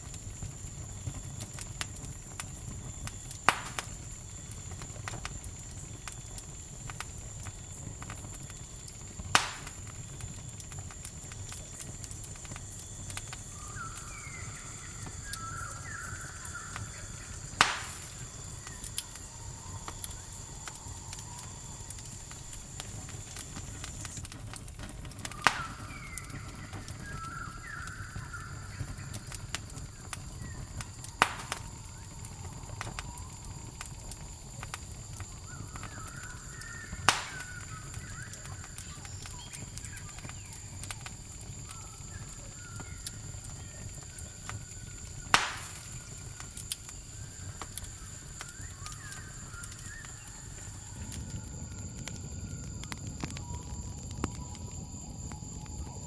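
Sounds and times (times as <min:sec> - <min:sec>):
campfire crackling and popping: 0:00.0 - 0:56.0
high insect trill: 0:00.0 - 0:56.0.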